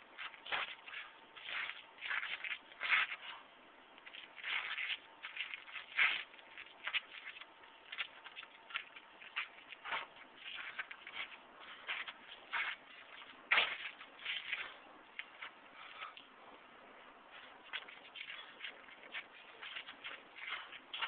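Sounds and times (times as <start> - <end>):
shoes scuffing on asphalt: 0.2 - 3.4, 4.0 - 16.2, 17.3 - 21.0.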